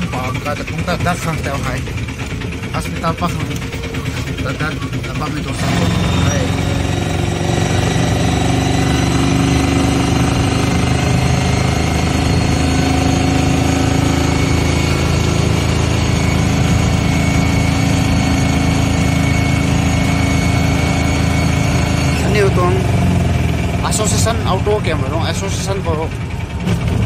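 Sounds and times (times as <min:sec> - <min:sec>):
vehicle engine running steadily: 0:00.0 - 0:27.0.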